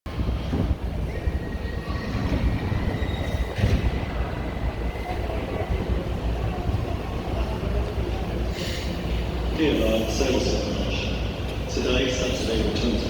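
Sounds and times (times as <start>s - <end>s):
train wheels rumbling on track: 0.1s - 13.0s.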